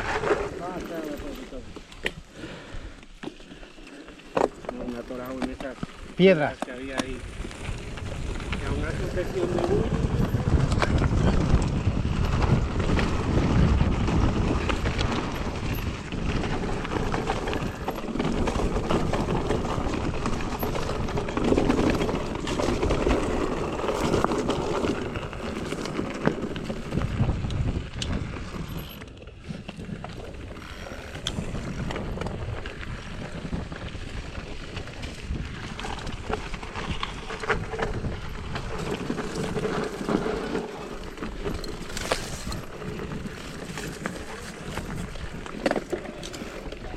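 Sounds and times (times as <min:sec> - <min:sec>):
bike tyres rolling over stones: 0:00.0 - 0:46.9
bike knocks and rattles: 0:04.3 - 0:46.9
wind buffeting microphone: 0:06.1 - 0:46.9.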